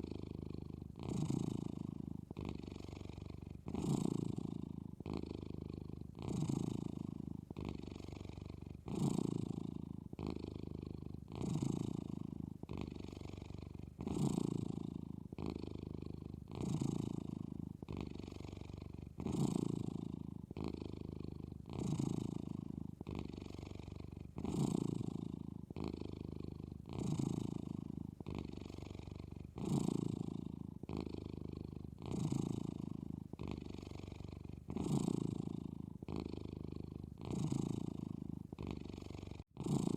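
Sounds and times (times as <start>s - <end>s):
cat snoring: 0.0s - 39.9s.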